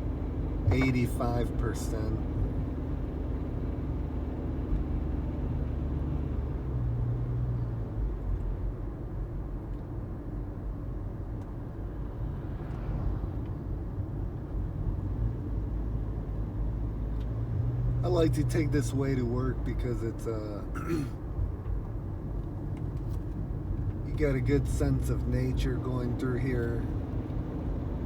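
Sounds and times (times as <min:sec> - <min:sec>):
car driving on road: 0:00.0 - 0:28.0.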